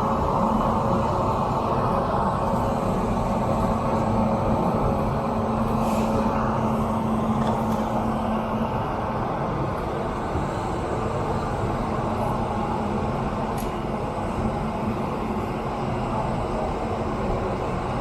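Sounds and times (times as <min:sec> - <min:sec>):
electric locomotive humming: 0:00.0 - 0:18.0.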